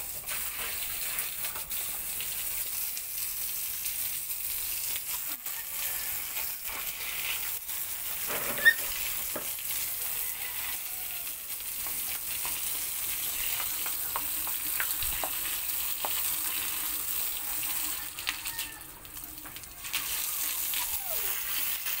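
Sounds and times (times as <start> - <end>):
hose spray hissing on concrete: 0.0 - 22.0.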